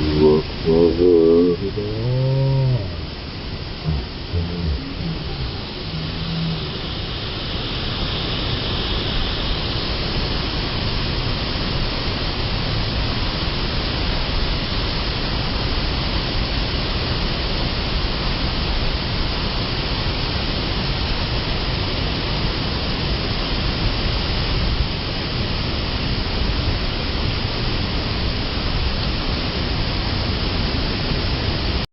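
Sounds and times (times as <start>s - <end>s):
waterfall roaring: 0.0s - 31.8s.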